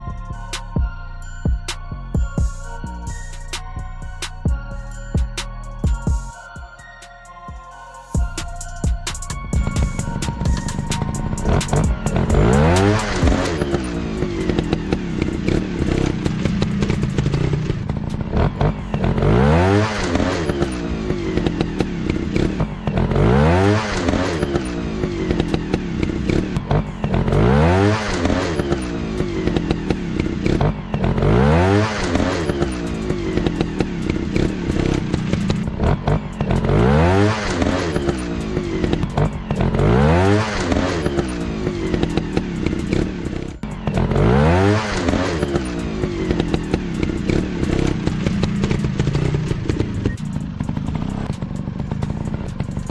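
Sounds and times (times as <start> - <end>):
dirt bike engines revving: 9.6 - 52.9.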